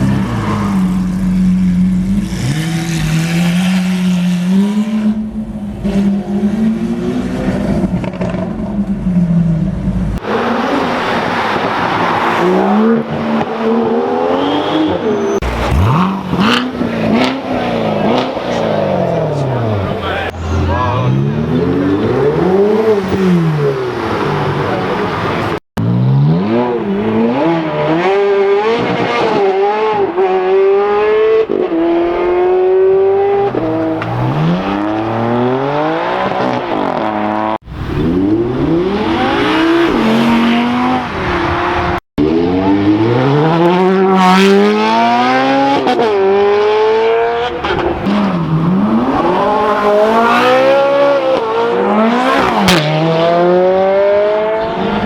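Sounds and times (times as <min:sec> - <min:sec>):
supercar engines revving: 0:00.0 - 0:55.0.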